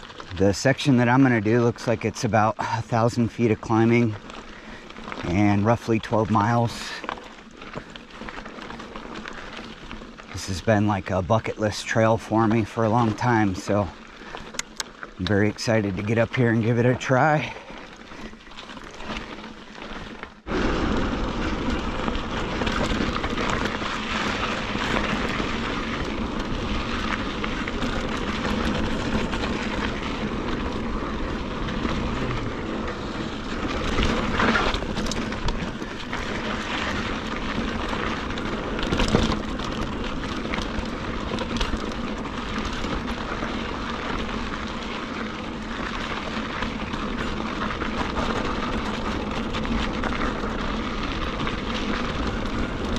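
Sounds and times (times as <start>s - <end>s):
bike rolling over dirt and rocks: 0.0s - 52.9s.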